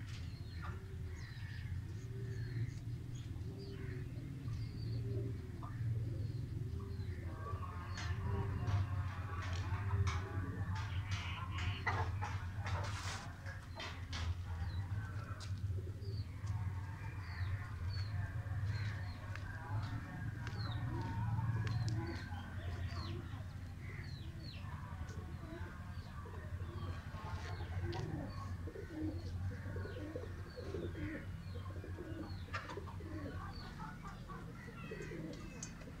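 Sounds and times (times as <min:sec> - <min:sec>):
pigeons cooing: 0:00.0 - 0:36.0
small birds chirping: 0:00.0 - 0:36.0.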